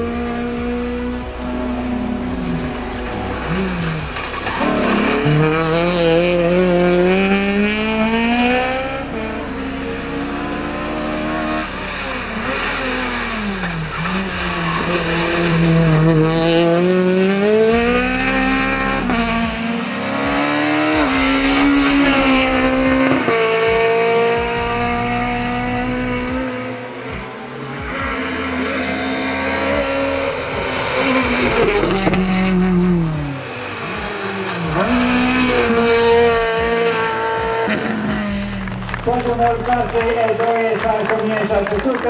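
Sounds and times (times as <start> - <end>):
car engine revving at full throttle: 0.0 - 42.0.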